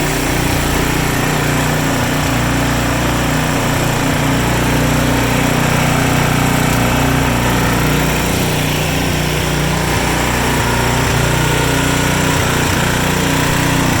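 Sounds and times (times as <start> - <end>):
snowblower engine running: 0.0 - 14.0.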